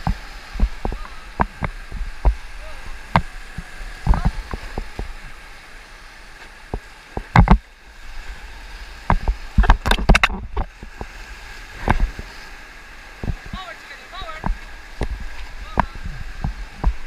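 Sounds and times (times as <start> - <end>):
paddle strokes: 0.0 - 17.0
waves slapping the boat: 0.0 - 17.0
whitewater rapids rushing: 0.0 - 17.0.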